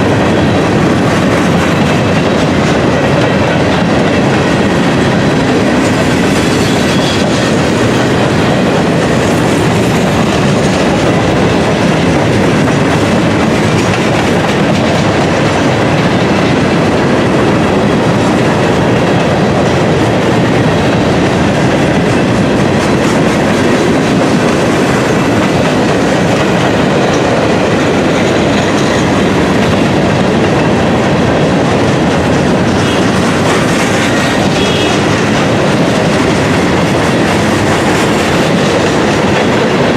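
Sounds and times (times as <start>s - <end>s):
freight train rumbling past: 0.0s - 39.9s
wheels clickety-clack on rail joints: 0.0s - 39.9s.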